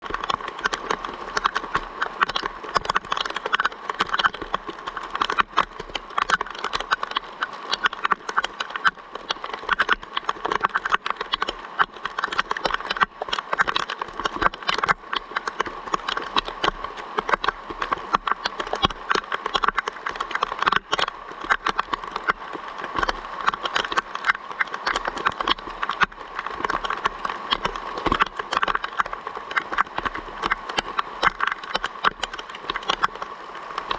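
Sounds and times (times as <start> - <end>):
raindrops tapping: 0.0 - 33.9.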